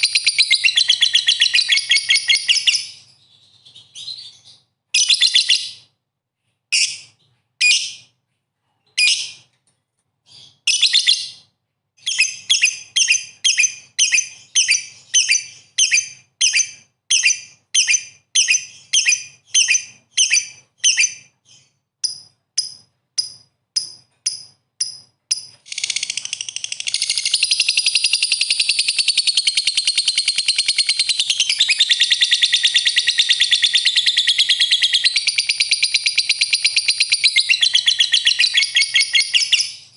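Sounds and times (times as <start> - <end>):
lovebird chirping and trilling: 0.0 - 5.9, 6.7 - 8.1, 9.0 - 9.5, 10.3 - 39.9.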